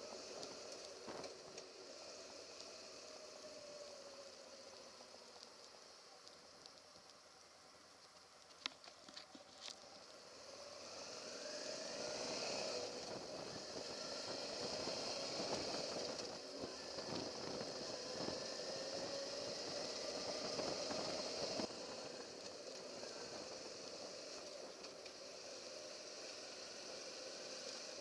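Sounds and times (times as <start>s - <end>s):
high hiss: 0.0s - 28.0s.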